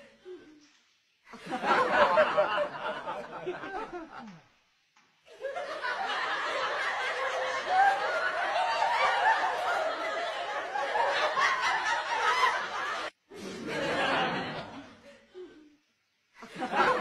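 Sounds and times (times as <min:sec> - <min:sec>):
group of people laughing: 0:01.3 - 0:04.5, 0:05.3 - 0:15.8, 0:16.4 - 0:17.0.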